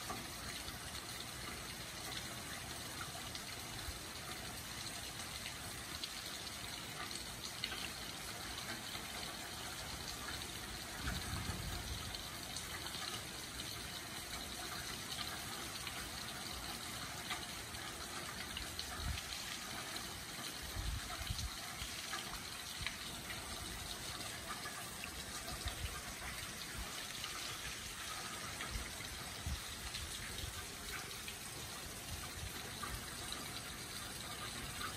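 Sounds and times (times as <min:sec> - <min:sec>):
rain on paving and leaves: 0:00.0 - 0:34.9.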